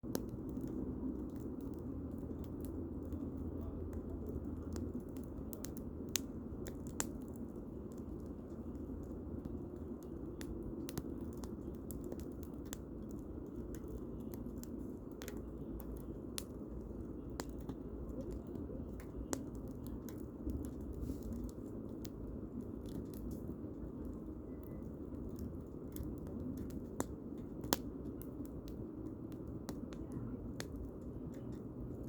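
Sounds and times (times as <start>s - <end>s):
campfire crackling and popping: 0.0s - 32.0s
low steady fire rush: 0.0s - 32.0s.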